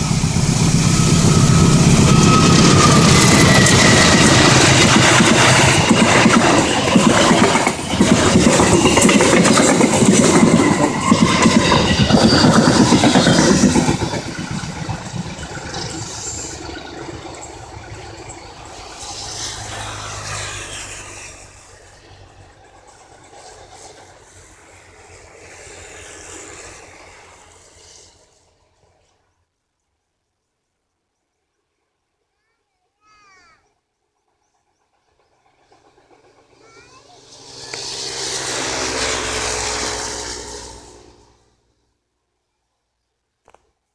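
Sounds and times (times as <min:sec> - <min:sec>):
train passing on rails: 0:00.0 - 0:29.3, 0:33.0 - 0:41.8.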